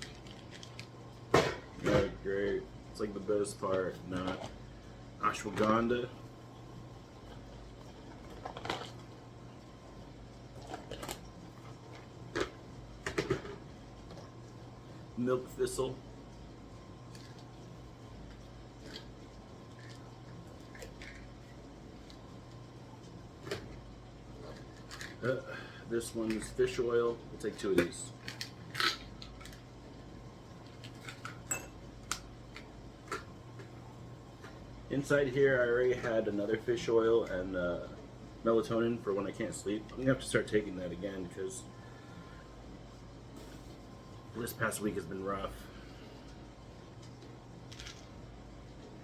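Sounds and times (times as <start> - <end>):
dishwasher humming: 0.0 - 49.0.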